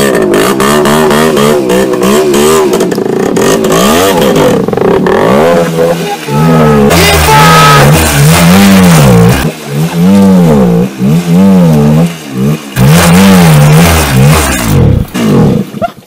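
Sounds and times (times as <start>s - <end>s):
two-stroke motorcycle engine revving: 0.0s - 15.9s.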